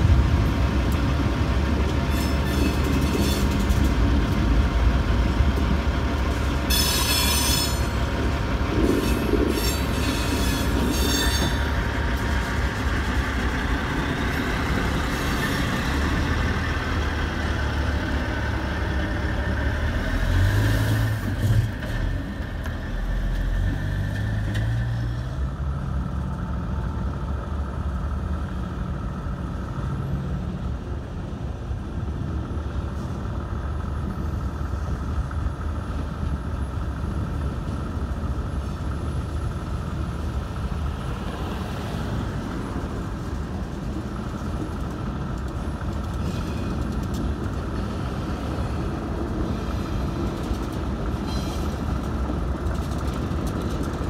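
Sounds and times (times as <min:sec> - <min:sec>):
diesel locomotive rumble: 0:00.0 - 0:54.0
train wheels on rails: 0:00.0 - 0:54.0.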